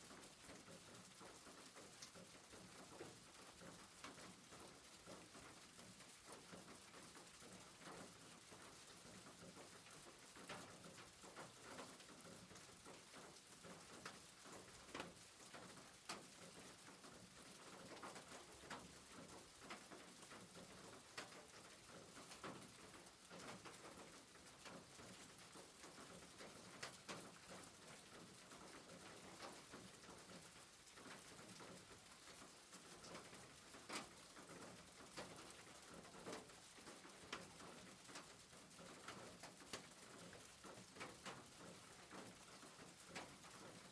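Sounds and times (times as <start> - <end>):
faint rain on a roof: 0.0 - 43.9.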